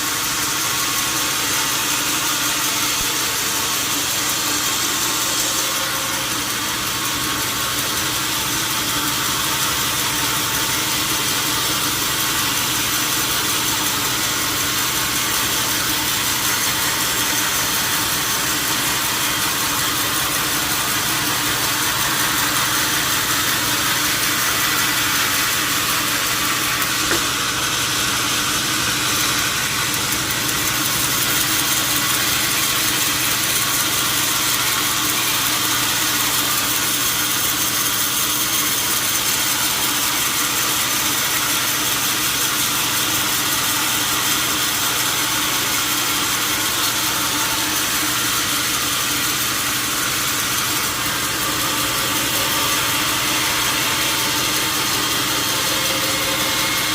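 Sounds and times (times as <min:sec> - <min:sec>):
machine hum: 0:00.0 - 0:56.9.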